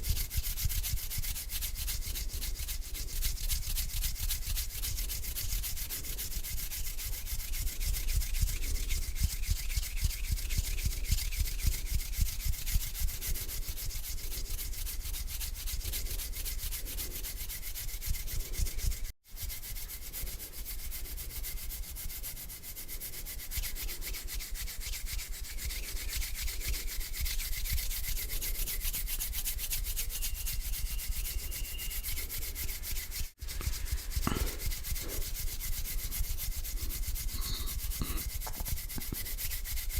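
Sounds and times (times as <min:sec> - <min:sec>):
palms rubbing together: 0:00.0 - 0:39.9.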